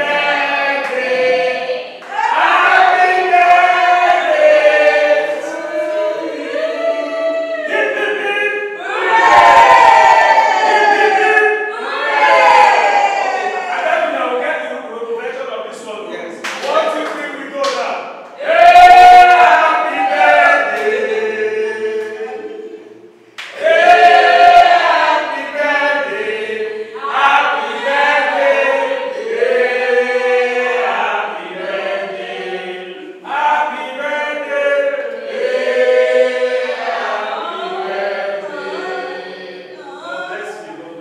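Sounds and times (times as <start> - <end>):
group singing without instruments: 0.0 - 14.7, 18.3 - 41.0.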